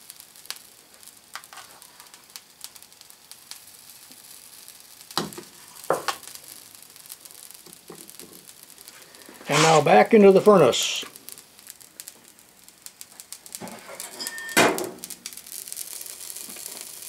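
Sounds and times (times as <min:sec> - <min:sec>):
powder sizzling and crackling on hot steel: 0:00.0 - 0:17.0.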